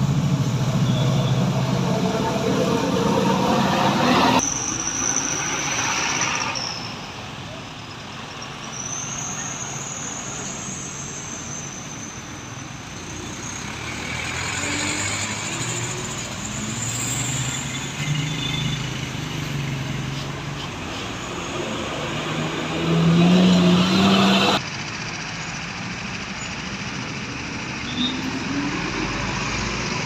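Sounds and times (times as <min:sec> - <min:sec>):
buses and trucks passing: 0:00.0 - 0:30.0
steady road noise: 0:00.0 - 0:30.0.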